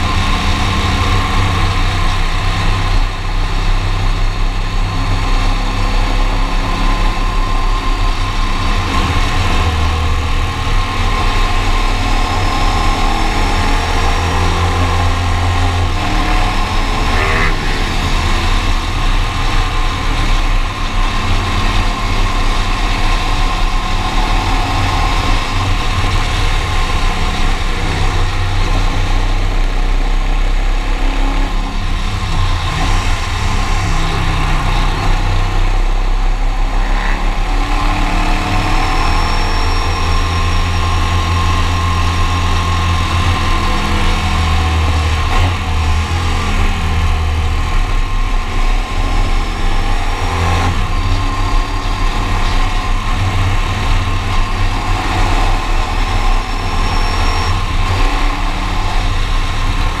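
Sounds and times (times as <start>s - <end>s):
motorcycle engine cruising: 0.0s - 60.0s.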